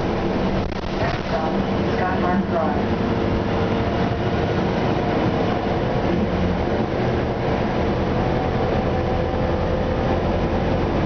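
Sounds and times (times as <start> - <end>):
bus engine running: 0.0 - 11.0
road noise: 0.0 - 11.0.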